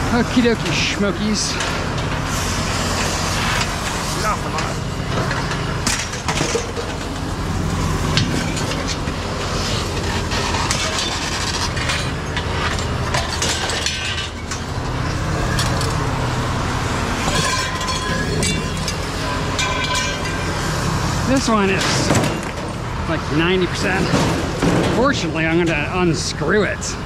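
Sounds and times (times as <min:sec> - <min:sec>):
motor rumbling: 0:00.0 - 0:27.0.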